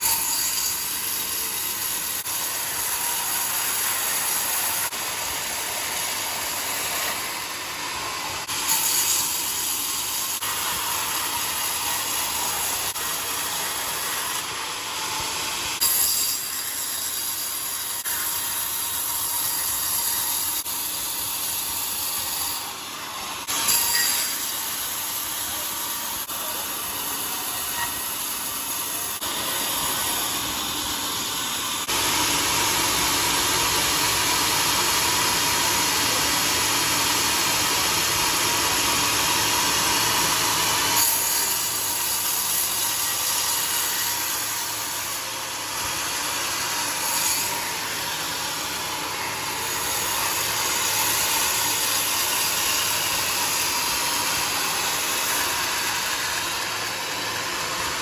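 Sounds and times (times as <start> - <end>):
sawmill sawing a log: 0.0 - 58.0.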